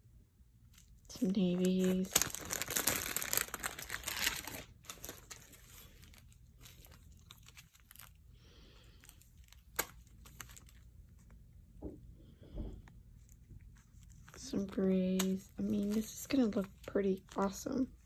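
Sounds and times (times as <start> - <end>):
plastic bags crinkling: 0.8 - 11.3, 13.2 - 18.0.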